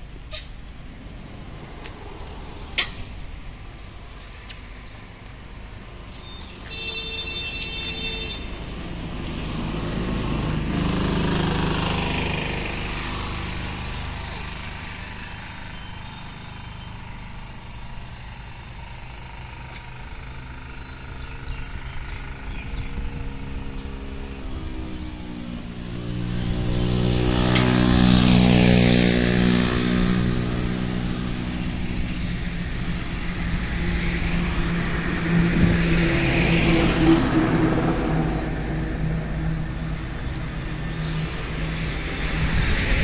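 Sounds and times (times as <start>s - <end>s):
vehicle engine passing by: 8.0s - 43.0s.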